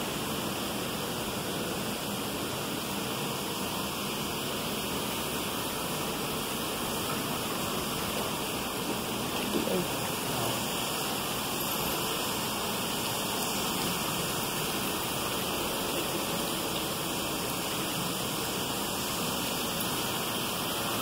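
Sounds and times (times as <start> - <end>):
rush of falling water: 0.0 - 21.0.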